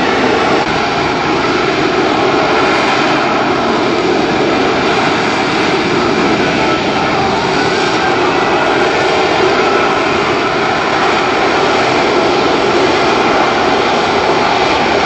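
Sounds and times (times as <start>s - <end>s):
jet engine flying past: 0.0s - 15.0s.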